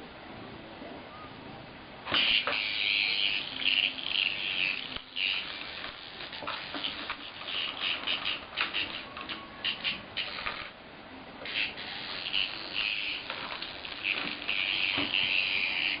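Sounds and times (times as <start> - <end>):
cicada buzzing in bursts: 2.1 - 10.7, 11.5 - 16.0.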